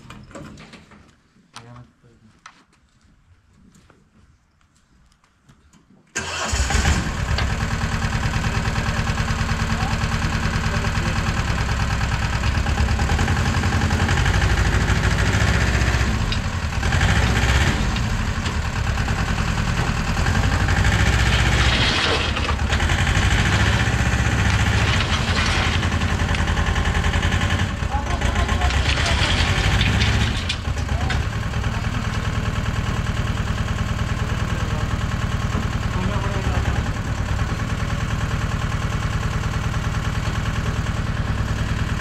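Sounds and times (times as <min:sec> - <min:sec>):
engine starting and running: 0:06.2 - 0:42.0.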